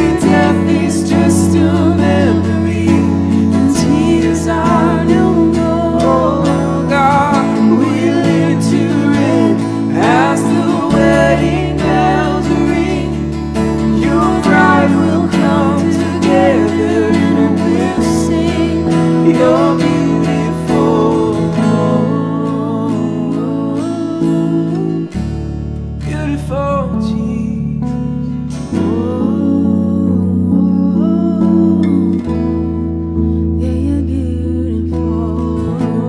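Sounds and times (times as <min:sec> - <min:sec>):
acoustic guitar strumming: 0:00.0 - 0:36.0
person singing: 0:00.0 - 0:36.0
piano chords: 0:00.0 - 0:36.0.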